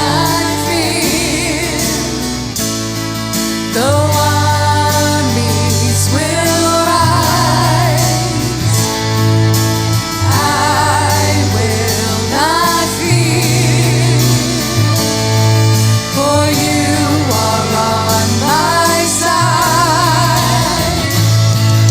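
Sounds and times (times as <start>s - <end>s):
band with sustained bass: 0.0s - 21.9s
person singing with vibrato: 0.0s - 21.9s.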